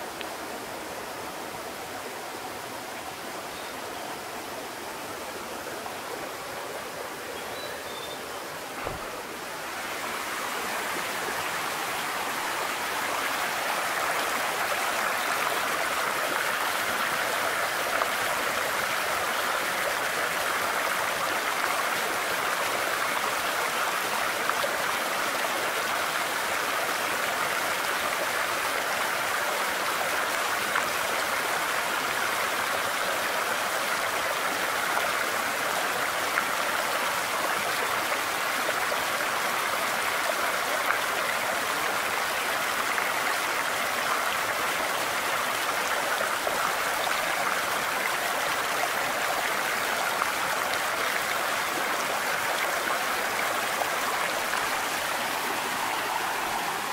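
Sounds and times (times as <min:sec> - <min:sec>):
creek water running over rocks: 0:00.0 - 0:56.9.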